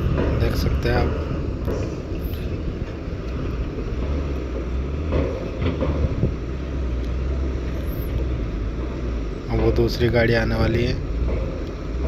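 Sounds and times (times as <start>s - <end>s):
heavy diesel engine droning: 0.0s - 12.0s.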